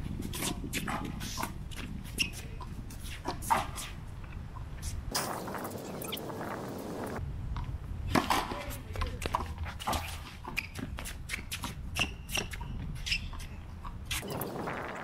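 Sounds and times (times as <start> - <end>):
shoes squeaking on court: 0.1 - 7.1, 8.1 - 14.7.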